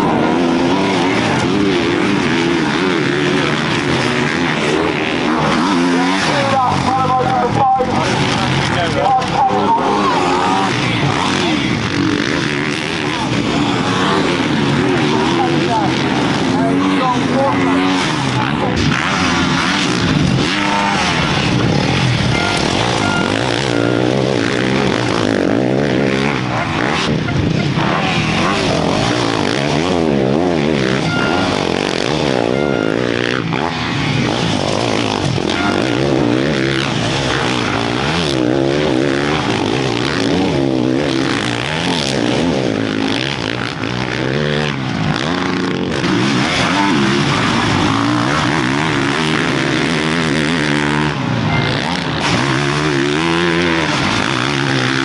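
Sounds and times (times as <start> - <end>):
motocross bikes revving: 0.0 - 55.0.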